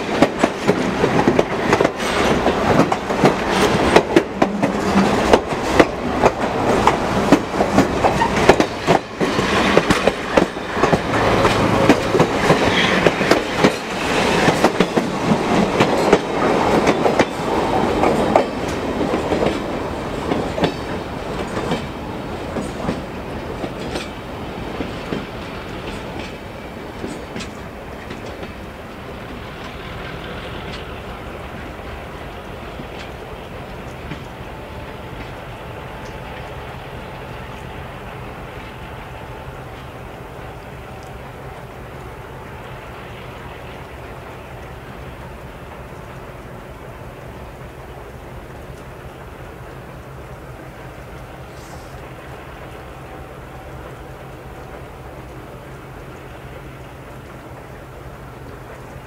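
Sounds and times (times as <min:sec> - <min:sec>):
train wheels clattering on track: 0:00.0 - 0:59.0.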